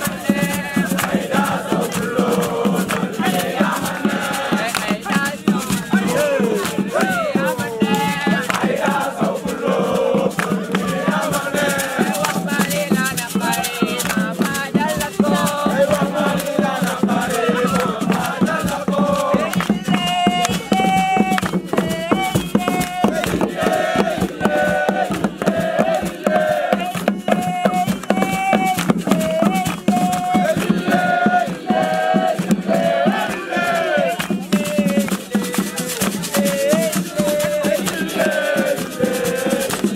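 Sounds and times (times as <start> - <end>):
group singing and chanting: 0.0 - 39.9
shaken rattles: 0.0 - 39.9.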